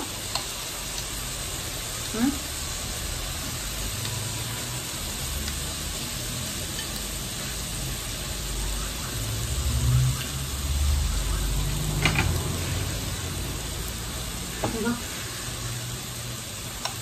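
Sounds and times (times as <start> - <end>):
meat sizzling on a grill plate: 0.0 - 17.0.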